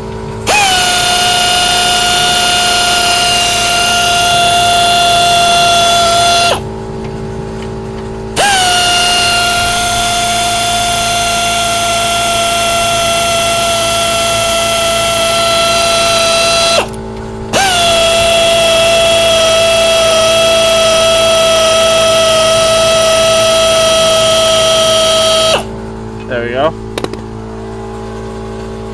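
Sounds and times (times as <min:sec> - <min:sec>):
pneumatic air wrench whining: 0:00.4 - 0:06.7, 0:08.3 - 0:25.7, 0:26.9 - 0:27.2.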